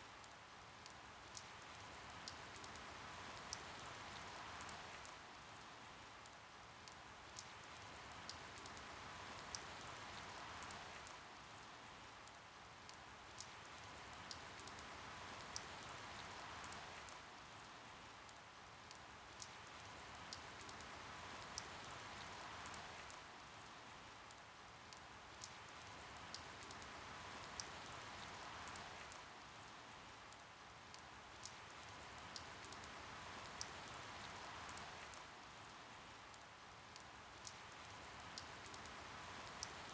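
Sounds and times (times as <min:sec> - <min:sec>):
faint steady rain: 0:00.0 - 0:39.9
raindrops ticking on a surface: 0:00.0 - 0:39.9.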